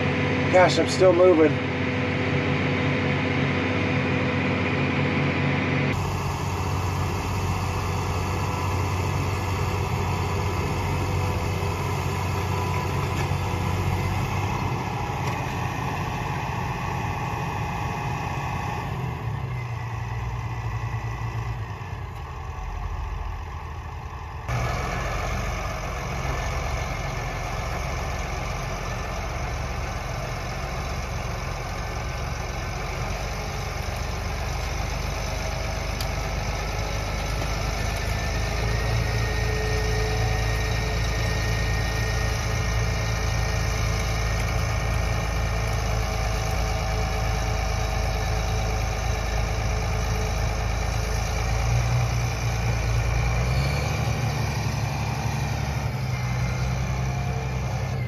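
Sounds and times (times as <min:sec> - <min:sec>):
tractor diesel engines running: 0:00.0 - 0:58.0.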